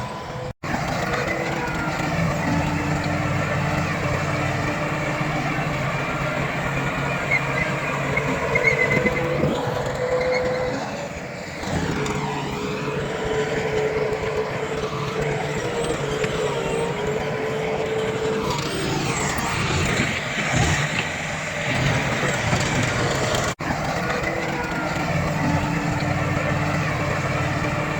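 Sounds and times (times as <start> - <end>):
diesel engine rumble: 0.0 - 27.9.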